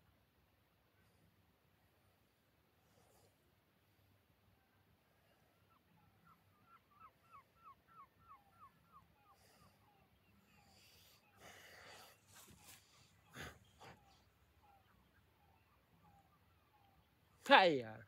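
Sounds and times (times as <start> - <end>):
bird calling faintly: 2.8 - 18.0.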